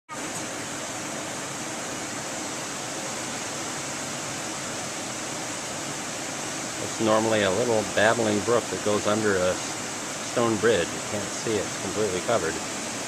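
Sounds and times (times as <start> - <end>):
brook water rushing: 0.1 - 13.0.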